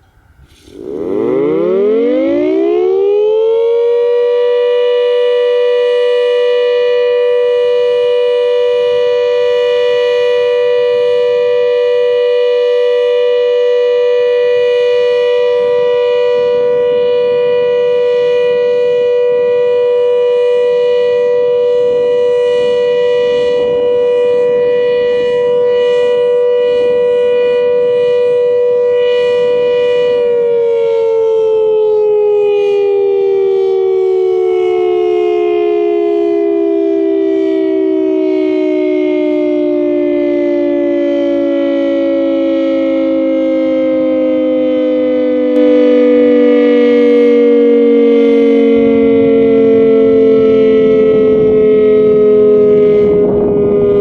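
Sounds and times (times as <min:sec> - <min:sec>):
siren wailing: 0:00.0 - 0:54.0.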